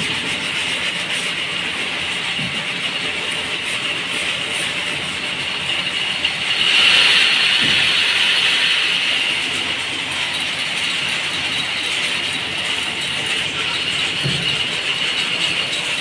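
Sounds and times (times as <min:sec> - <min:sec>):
workshop machinery clattering: 0:00.0 - 0:16.0.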